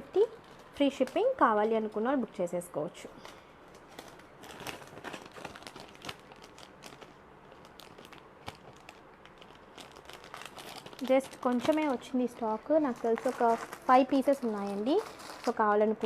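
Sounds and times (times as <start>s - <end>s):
plastic packaging crinkling: 0.0s - 2.5s, 3.1s - 16.0s.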